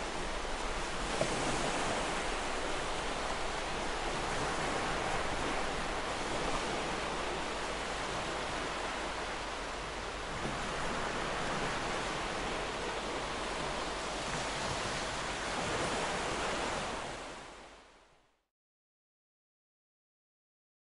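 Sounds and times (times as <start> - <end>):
ocean waves washing on shore: 0.0 - 18.2.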